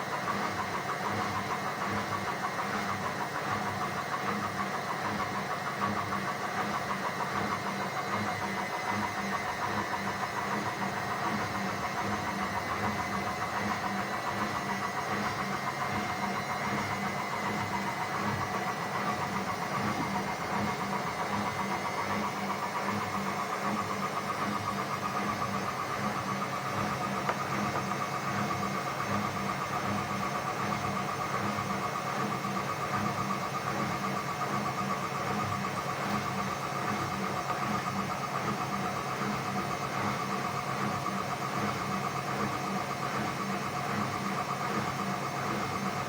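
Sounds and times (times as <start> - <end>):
washing machine motor humming: 0.0 - 46.0.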